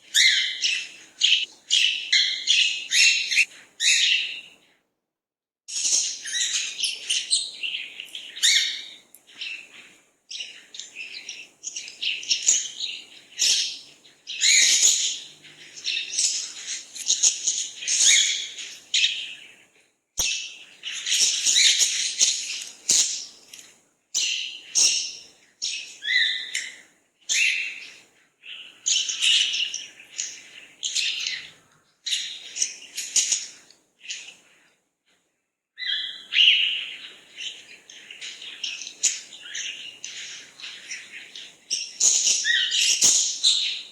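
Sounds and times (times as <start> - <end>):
songbirds chirping and singing: 0.0 - 4.7, 5.7 - 34.8, 35.8 - 43.9.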